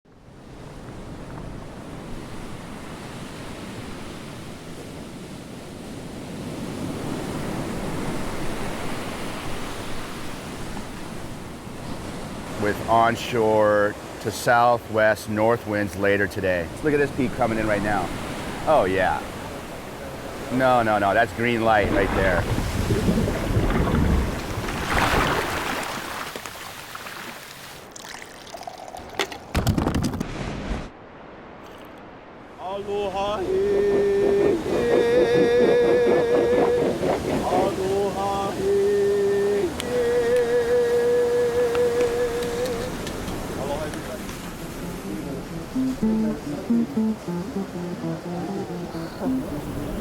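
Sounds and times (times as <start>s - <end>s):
ocean surf breaking: 0.4s - 27.8s, 30.3s - 50.0s.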